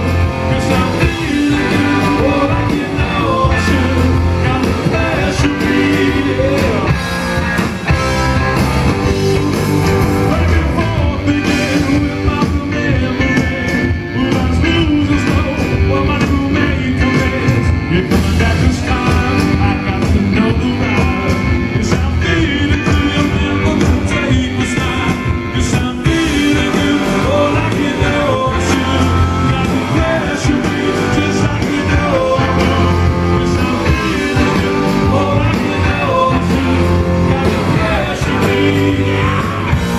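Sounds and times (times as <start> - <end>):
person singing: 0.0 - 7.1, 10.2 - 39.9
live rock band playing: 0.0 - 39.9.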